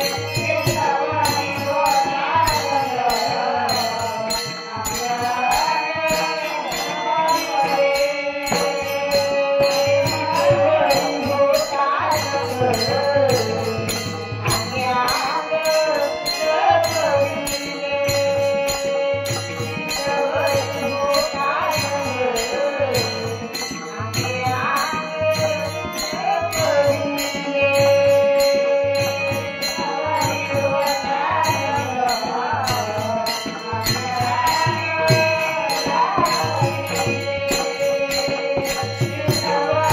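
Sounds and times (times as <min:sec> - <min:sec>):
small hand cymbals jingling: 0:00.0 - 0:39.9
woman singing: 0:00.0 - 0:39.9.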